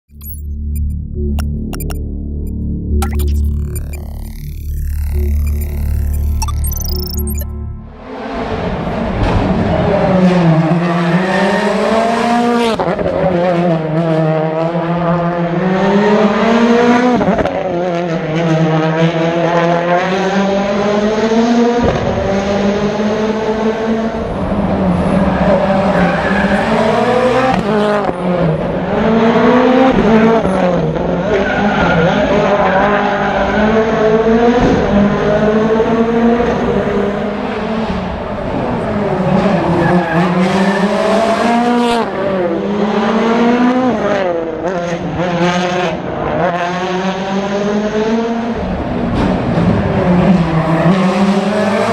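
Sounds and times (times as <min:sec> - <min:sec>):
rally car engine revving: 0:03.0 - 0:51.9.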